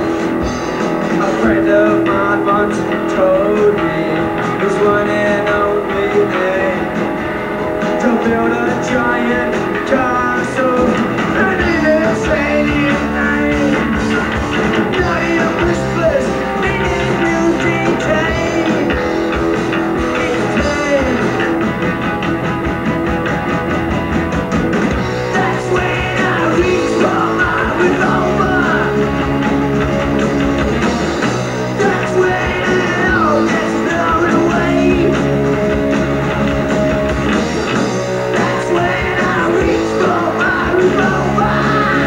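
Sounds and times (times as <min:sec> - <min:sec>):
bass guitar: 0:00.0 - 0:42.0
drums: 0:00.0 - 0:42.0
electric guitar: 0:00.0 - 0:42.0.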